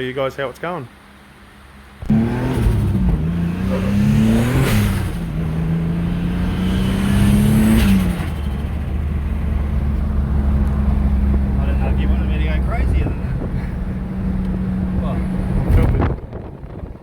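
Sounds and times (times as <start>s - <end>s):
turbocharged engine accelerating: 2.0s - 17.0s.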